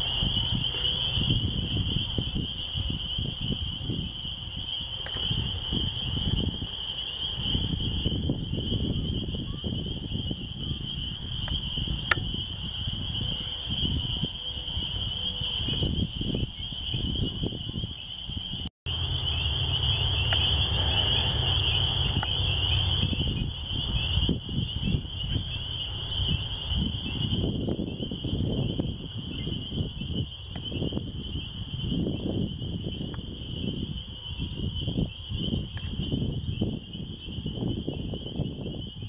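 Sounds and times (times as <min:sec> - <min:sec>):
chorus of spring peepers: 0:00.0 - 0:39.0
wind rumble on microphone: 0:00.0 - 0:39.0.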